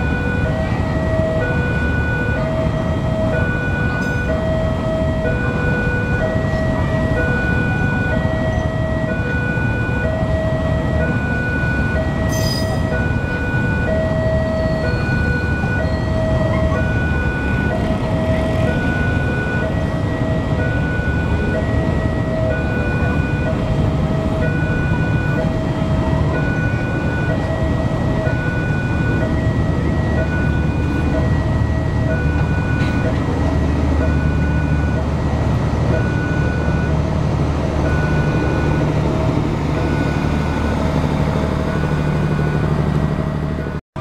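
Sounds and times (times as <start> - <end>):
level crossing alarm two-note tone: 0.0 - 35.3
train coaches rumbling past: 0.0 - 44.0.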